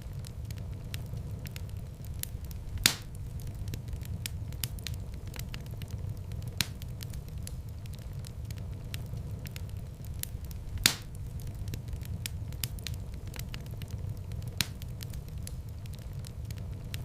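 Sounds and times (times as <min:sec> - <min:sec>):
fire crackling and popping: 0:00.0 - 0:17.0
low rumble of flame: 0:00.0 - 0:17.0.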